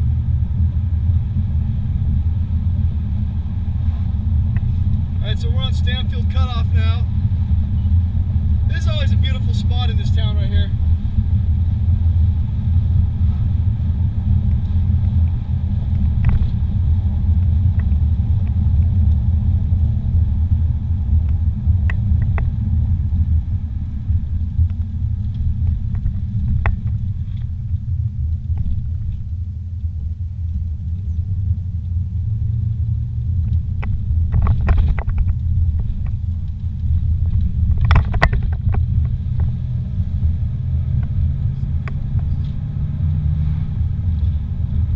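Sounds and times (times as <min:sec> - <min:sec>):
car cabin road rumble: 0:00.0 - 0:44.9.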